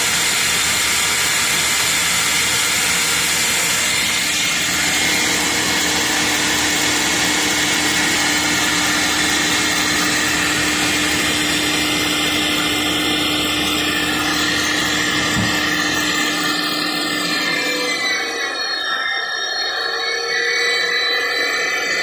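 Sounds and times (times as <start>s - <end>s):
meat grinder motor humming: 0.0s - 19.1s.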